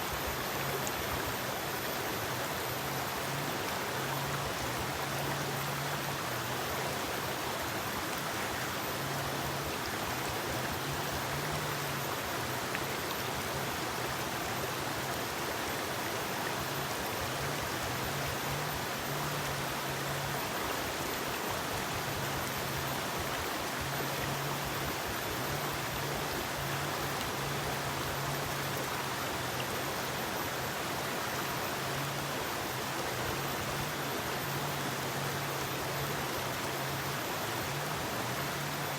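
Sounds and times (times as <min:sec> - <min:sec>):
faint low hum: 0:00.0 - 0:38.9
river flowing over rocks: 0:00.0 - 0:38.9.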